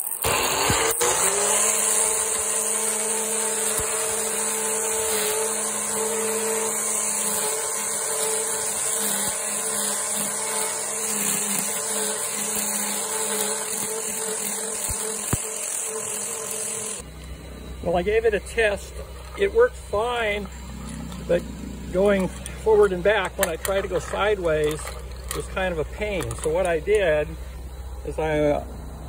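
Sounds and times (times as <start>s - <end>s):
string trimmer cutting grass: 0.0s - 27.4s.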